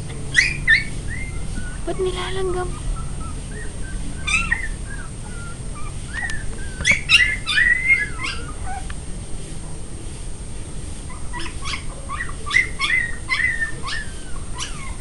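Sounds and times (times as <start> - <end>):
puppies whimpering and squealing: 0.0 - 9.0, 11.0 - 15.0.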